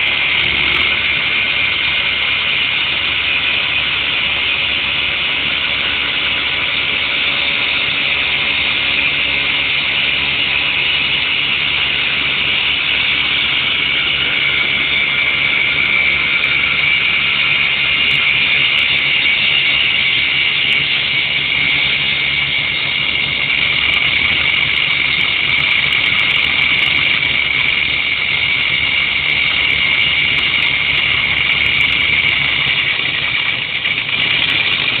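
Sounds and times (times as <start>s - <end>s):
lathe spindle whirring: 0.0s - 35.0s
low hum: 0.0s - 35.0s.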